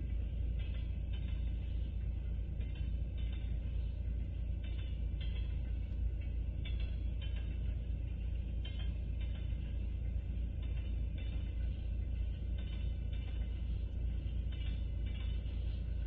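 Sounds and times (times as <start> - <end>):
freight train rumbling: 0.0 - 16.0
rhythmic train wheel clicks: 0.0 - 16.0.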